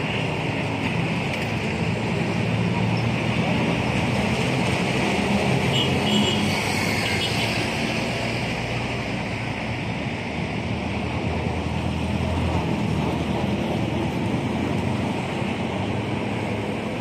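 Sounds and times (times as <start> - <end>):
cars passing on busy road: 0.0 - 17.0.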